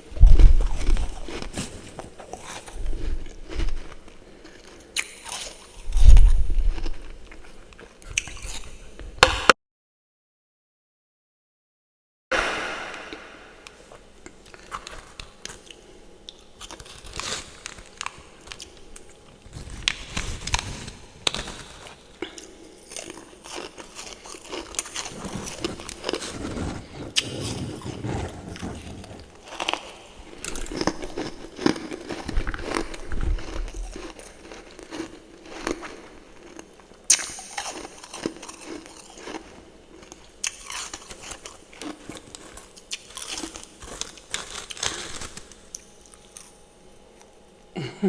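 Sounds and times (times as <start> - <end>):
frost being chewed: 0.3 - 8.9, 14.5 - 47.4.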